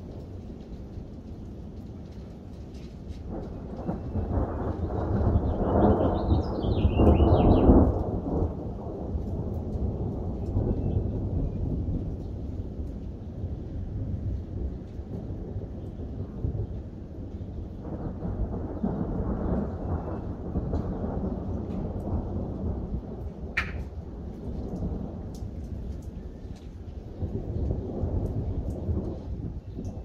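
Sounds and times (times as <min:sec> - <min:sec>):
light rain: 0:00.0 - 0:30.0
thunder rumbling: 0:00.0 - 0:30.0.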